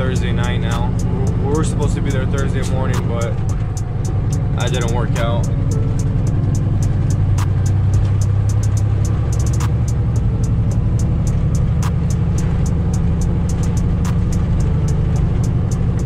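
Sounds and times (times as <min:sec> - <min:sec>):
diesel truck engine droning: 0:00.0 - 0:16.0
music with hi-hat beat: 0:00.0 - 0:16.0.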